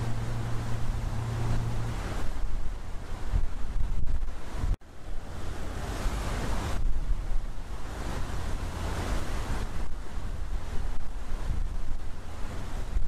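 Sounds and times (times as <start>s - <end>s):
sea surf rushing: 0.0s - 13.0s
wind: 0.0s - 13.0s.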